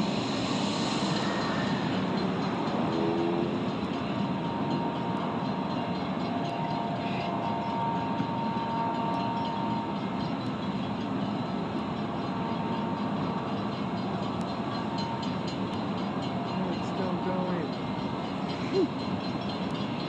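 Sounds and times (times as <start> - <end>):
freight train cars rolling: 0.0 - 20.0.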